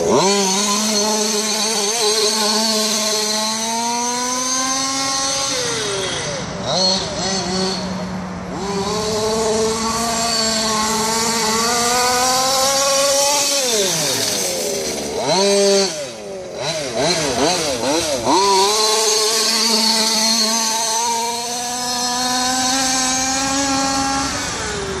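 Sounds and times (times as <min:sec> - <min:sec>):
small two-stroke engine revving: 0:00.0 - 0:25.0.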